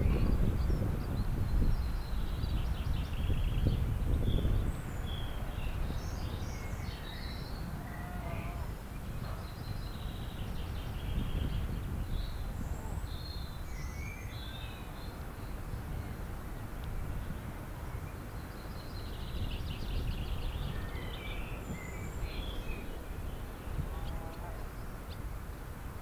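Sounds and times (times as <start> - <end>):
small birds chirping: 0.0 - 25.3.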